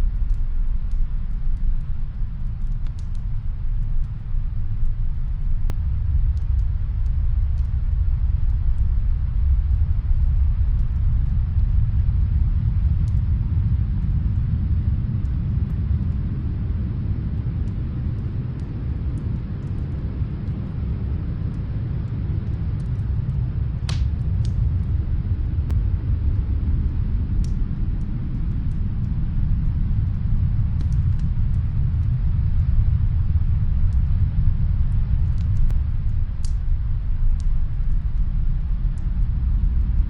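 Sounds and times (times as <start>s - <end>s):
faint wood fire crackles: 0.0s - 40.0s
snowstorm wind rumble: 0.0s - 40.0s.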